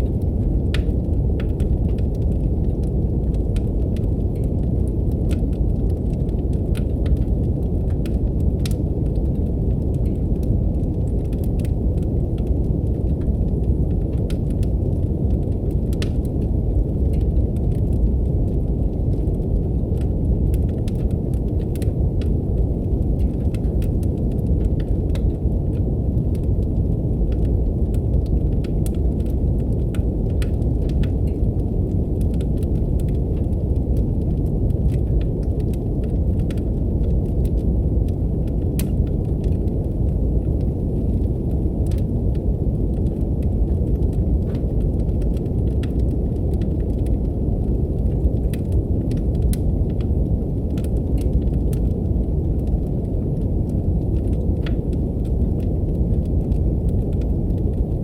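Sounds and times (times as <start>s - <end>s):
brown noise rumble: 0.0s - 58.0s
wood fire crackling: 0.0s - 58.0s.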